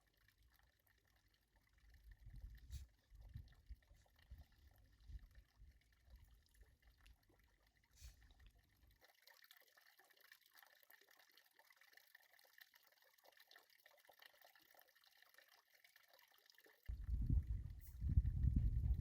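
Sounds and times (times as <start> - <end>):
faint trickling liquid: 0.0 - 19.0.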